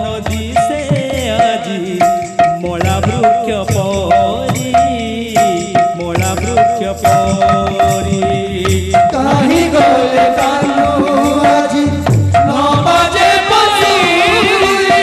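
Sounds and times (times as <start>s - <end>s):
barrel drums beating: 0.0s - 15.0s.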